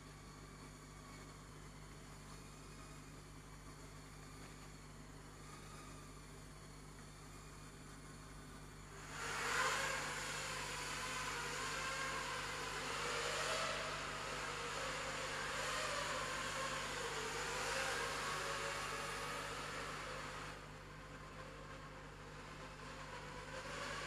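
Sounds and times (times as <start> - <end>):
quadcopter motors buzzing whine: 2.3 - 6.4, 7.0 - 24.0.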